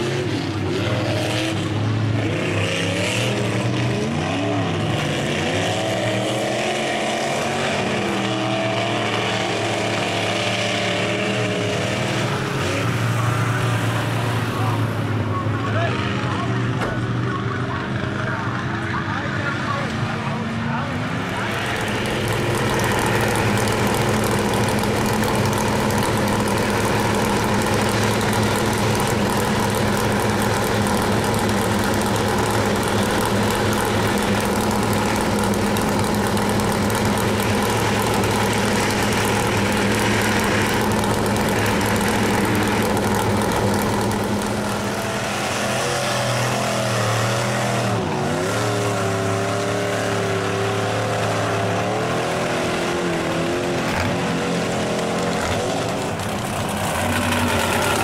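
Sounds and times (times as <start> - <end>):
truck engine revving high: 0.0 - 58.0.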